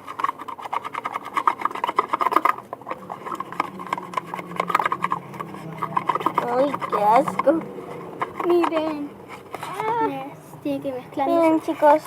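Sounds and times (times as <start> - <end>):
faint low hum: 0.0 - 12.0
slime squelching when stirred: 0.0 - 12.0.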